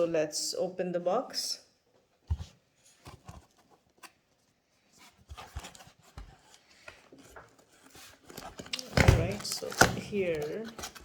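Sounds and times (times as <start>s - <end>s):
box being handled and opened: 2.1s - 11.0s.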